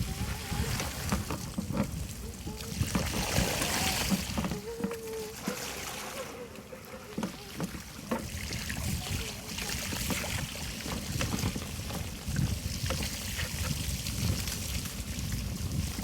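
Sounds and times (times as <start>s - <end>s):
bicycle tyres splashing through water: 0.0s - 16.0s.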